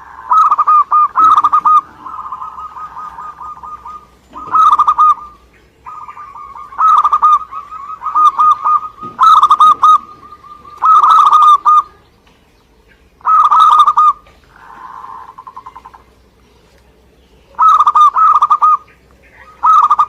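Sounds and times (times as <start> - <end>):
dove bubbling cooing: 0.0 - 12.1, 13.1 - 16.2, 17.5 - 20.0.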